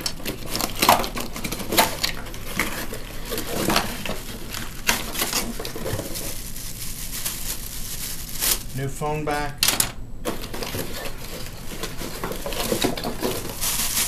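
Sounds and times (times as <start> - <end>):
hands rummaging in cardboard box: 0.0 - 8.7, 10.3 - 14.0.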